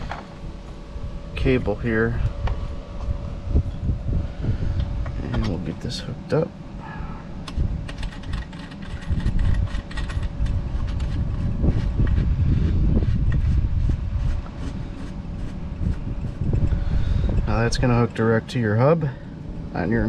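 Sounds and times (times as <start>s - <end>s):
loud uneven low rumble: 0.0s - 20.0s.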